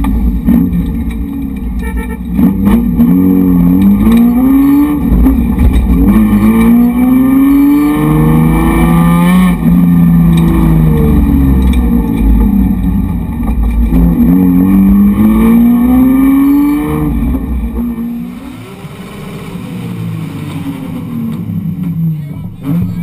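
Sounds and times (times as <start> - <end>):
gear change: 0.0 - 23.0
race car engine revving: 0.0 - 23.0.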